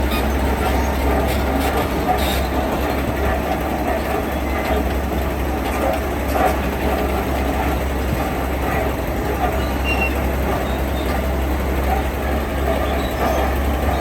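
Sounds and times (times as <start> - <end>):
heavy diesel engine drone: 0.0 - 14.0.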